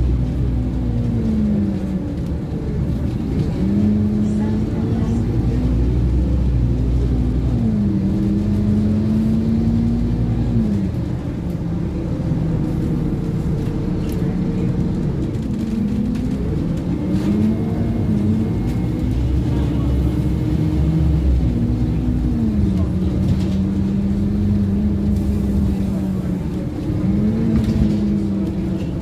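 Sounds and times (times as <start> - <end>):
bus engine rumble: 0.0 - 29.0
drivetrain whine: 0.0 - 29.0.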